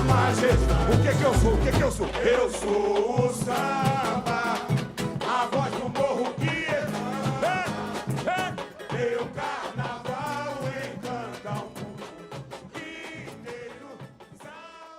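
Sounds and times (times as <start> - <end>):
person singing: 0.0 - 14.9
samba percussion drumming: 0.0 - 14.9.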